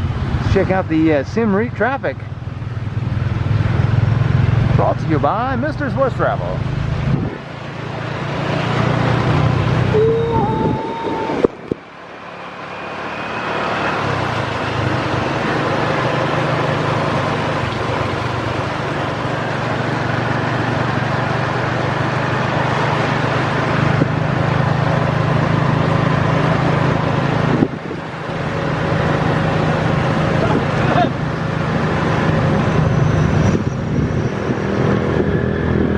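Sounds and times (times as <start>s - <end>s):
road and rain hiss: 0.0s - 10.6s, 11.2s - 35.2s
vehicle engine hum: 0.0s - 35.9s.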